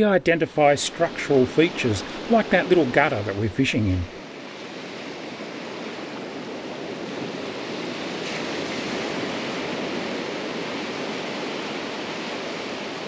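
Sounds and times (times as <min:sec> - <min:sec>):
surf washing over sand: 0:00.1 - 0:13.0.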